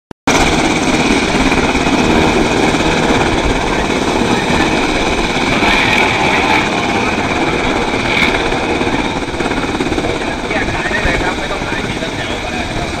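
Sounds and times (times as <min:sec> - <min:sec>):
helicopter rotor chop: 0:00.3 - 0:13.0
high turbine engine whine: 0:00.3 - 0:13.0.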